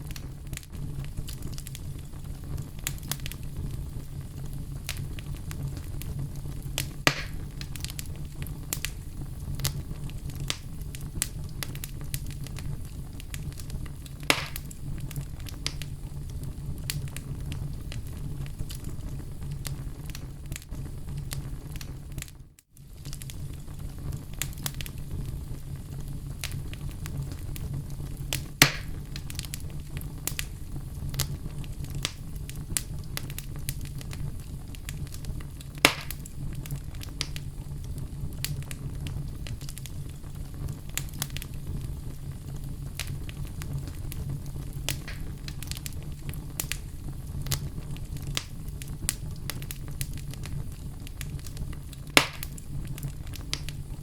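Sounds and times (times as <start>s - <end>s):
logs crackling in a fireplace: 0.0s - 54.0s
loud fire pops: 0.0s - 54.0s.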